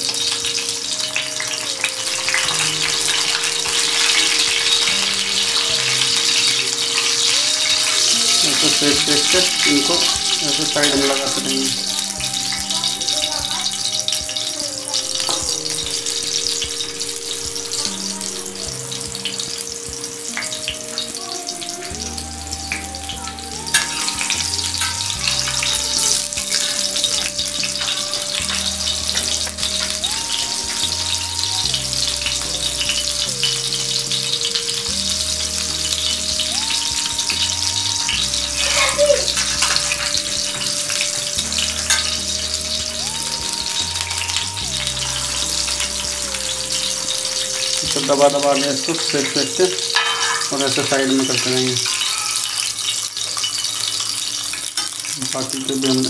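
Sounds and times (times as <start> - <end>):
background melody with bass line: 0.0 - 52.9
vegetables sizzling in hot oil: 0.0 - 56.0.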